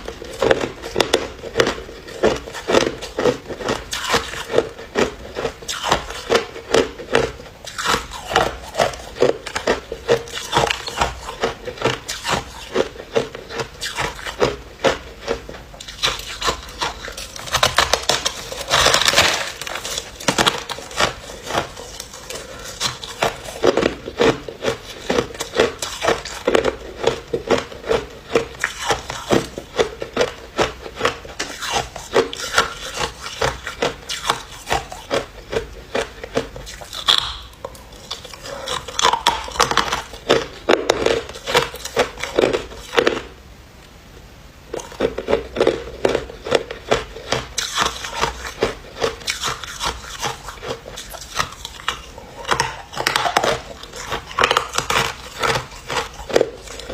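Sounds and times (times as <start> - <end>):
ice being chewed: 0.0 - 43.4, 44.7 - 56.9.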